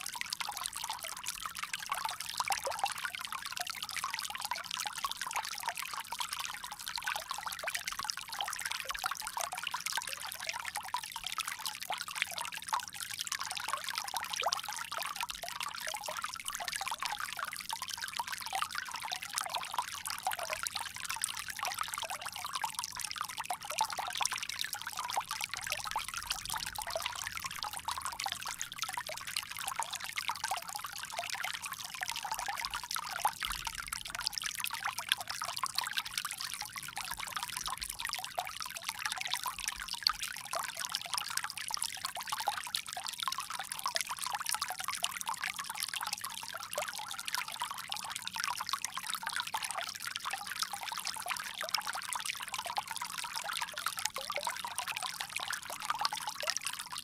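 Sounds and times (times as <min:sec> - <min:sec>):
water pouring from a spout: 0:00.0 - 0:57.0.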